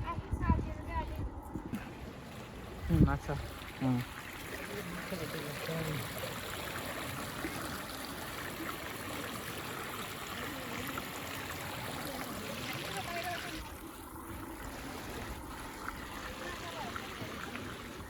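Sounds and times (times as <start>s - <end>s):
running water: 0.2s - 18.0s.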